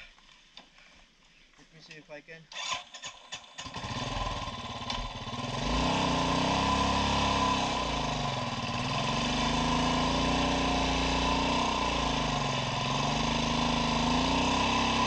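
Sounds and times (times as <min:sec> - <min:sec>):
motorcycle engine revving: 0:02.5 - 0:15.0.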